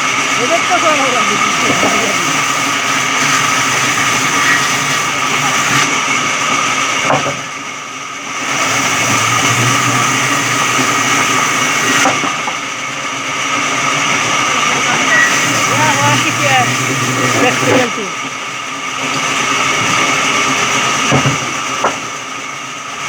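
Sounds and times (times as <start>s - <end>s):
electric sawmill whining: 0.0s - 23.0s.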